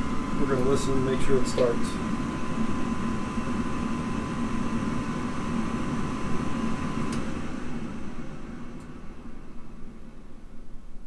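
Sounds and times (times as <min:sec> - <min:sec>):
motor hum with high whine: 0:00.0 - 0:11.0.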